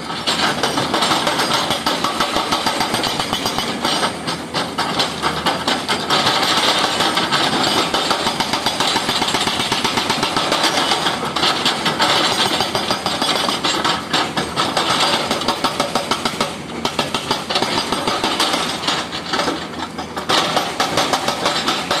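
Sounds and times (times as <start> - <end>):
hydraulic breaker hammering: 0.1 - 22.0.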